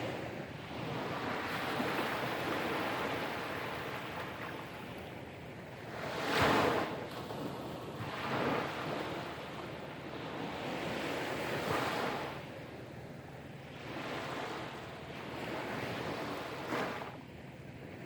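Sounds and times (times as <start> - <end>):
small waves breaking on beach: 0.0 - 18.0.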